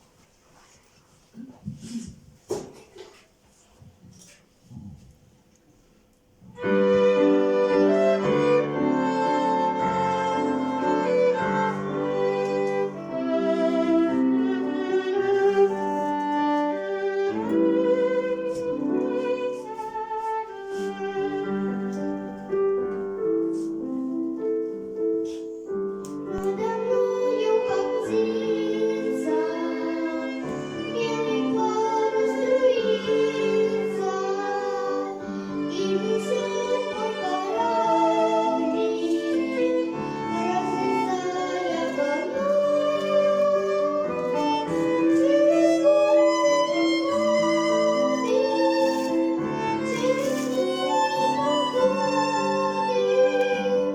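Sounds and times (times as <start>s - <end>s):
children's song with violin melody: 6.4s - 53.9s.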